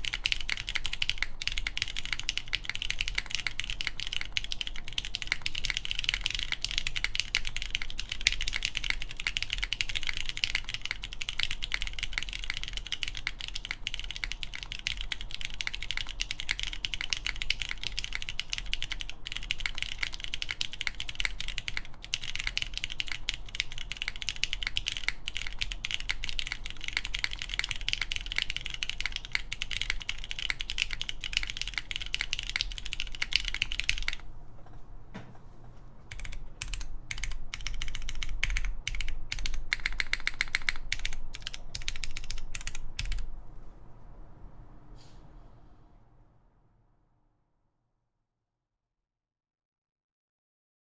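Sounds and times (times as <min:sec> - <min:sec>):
fast mechanical keyboard typing: 0:00.0 - 0:34.2, 0:36.1 - 0:43.4.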